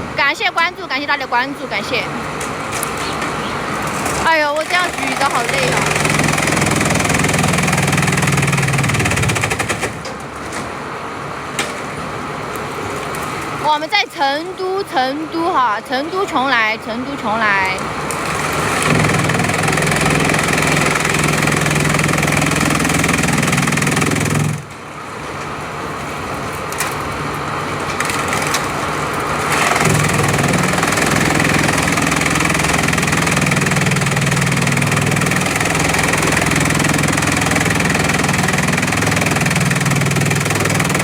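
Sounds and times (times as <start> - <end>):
chipping machine humming: 1.8 - 13.6, 17.2 - 41.0.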